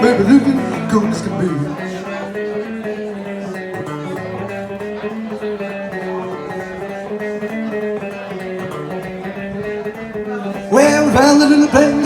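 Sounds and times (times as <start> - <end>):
bass guitar: 0.0 - 3.0, 3.6 - 12.0
electric guitar: 0.0 - 12.0.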